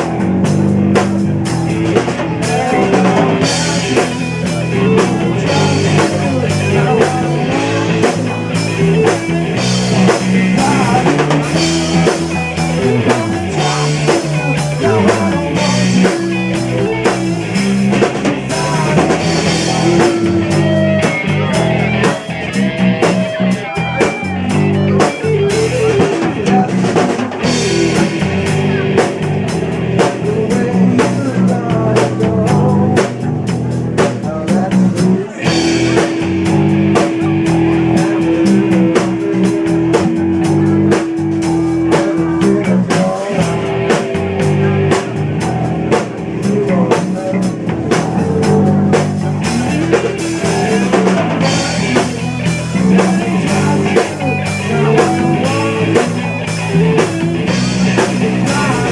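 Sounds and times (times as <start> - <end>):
drum kit beat: 0.0 - 58.9
rock band playing: 0.0 - 58.9.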